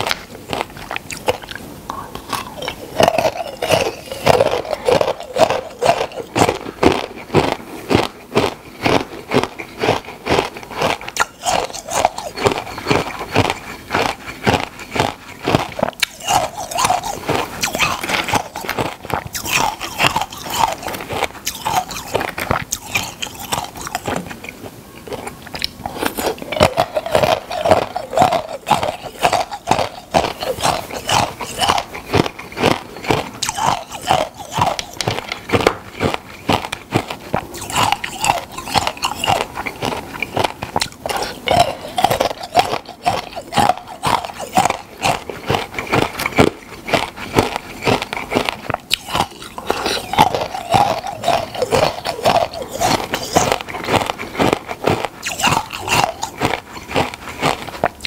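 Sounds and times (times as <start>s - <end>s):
crunching bites of brittle food: 0.0s - 58.0s.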